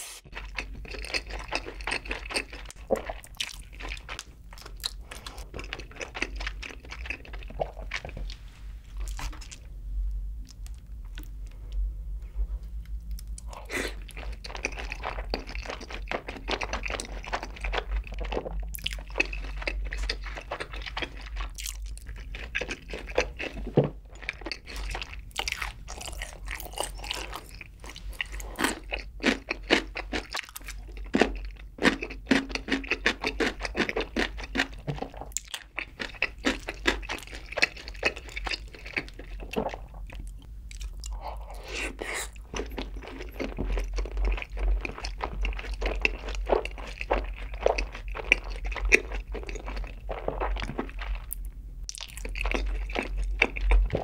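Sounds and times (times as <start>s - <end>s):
chewing with crunching: 0.3s - 9.7s, 12.5s - 54.0s.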